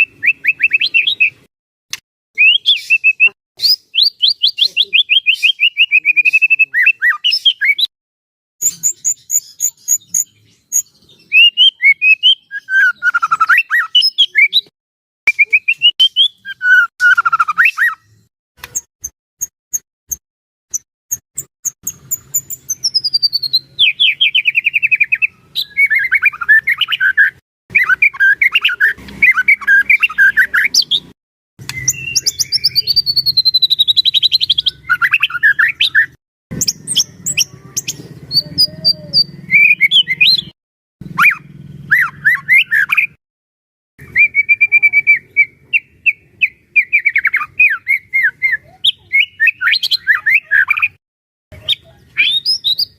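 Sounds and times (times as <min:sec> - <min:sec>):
bird singing trills and whistles: 0:00.0 - 0:01.5, 0:02.4 - 0:07.9, 0:08.6 - 0:14.7, 0:15.3 - 0:19.8, 0:21.4 - 0:43.2, 0:44.0 - 0:52.9.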